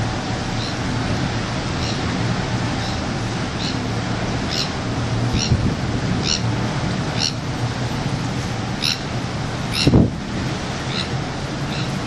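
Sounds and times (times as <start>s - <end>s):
ferry engine rumble: 0.0s - 12.0s
water noise: 0.0s - 12.0s
wind: 0.0s - 12.0s.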